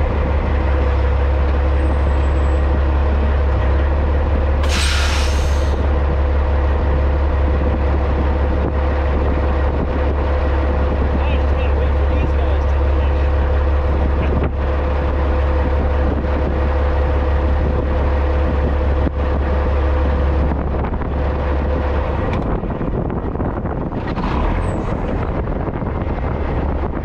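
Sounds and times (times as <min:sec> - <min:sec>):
wind on microphone: 0:00.0 - 0:12.5, 0:13.4 - 0:27.0
diesel truck engine droning: 0:00.0 - 0:27.0.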